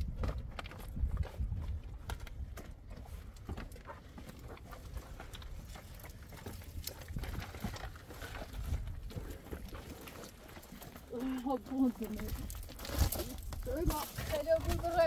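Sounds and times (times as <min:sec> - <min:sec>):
footsteps crunching on stones: 0:00.0 - 0:15.0.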